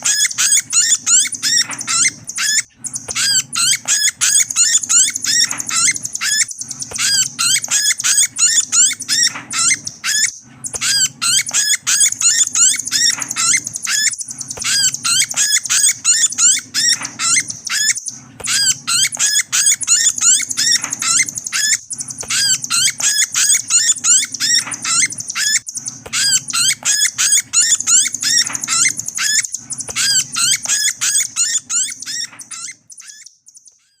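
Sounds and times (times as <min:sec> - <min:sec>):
low electrical hum: 0:00.0 - 0:33.7
bird call notes from playback: 0:00.0 - 0:34.0.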